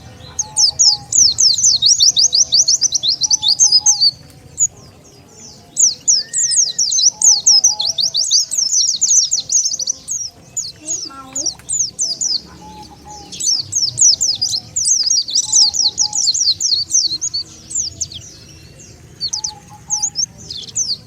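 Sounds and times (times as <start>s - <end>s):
bird chirping rapidly: 0.0s - 4.8s, 5.4s - 21.0s.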